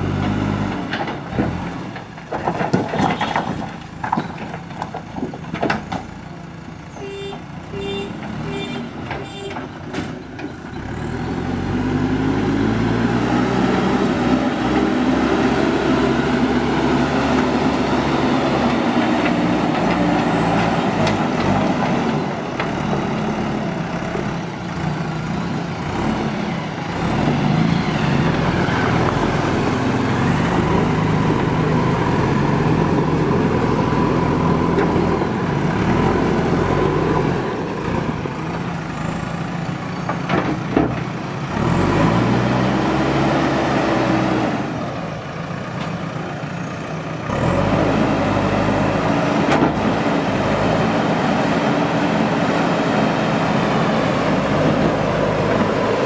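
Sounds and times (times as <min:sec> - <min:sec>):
diesel engine running: 0:03.5 - 0:56.0.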